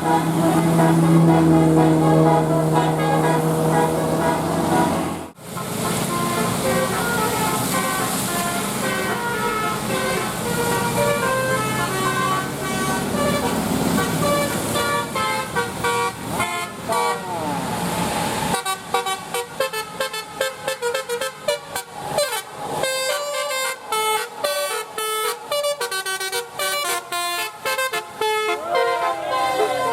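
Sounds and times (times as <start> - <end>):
bus multi-tone air horns: 0.0 - 29.9.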